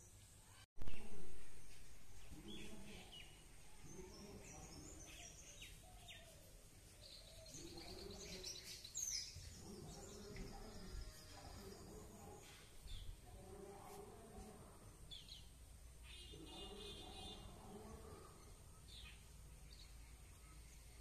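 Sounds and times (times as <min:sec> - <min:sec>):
faint birds chirping: 0:00.0 - 0:21.0
low open-air ambience hum: 0:00.0 - 0:21.0.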